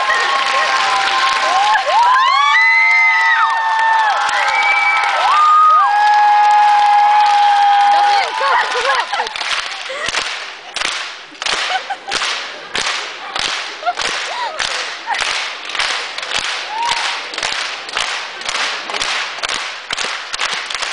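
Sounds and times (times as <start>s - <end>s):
audience clapping in unison: 0.0s - 20.9s.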